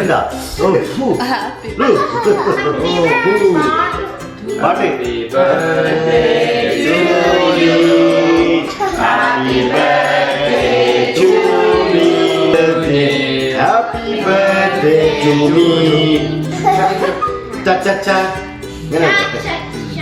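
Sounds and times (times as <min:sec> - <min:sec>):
voices singing together: 0:01.6 - 0:20.0.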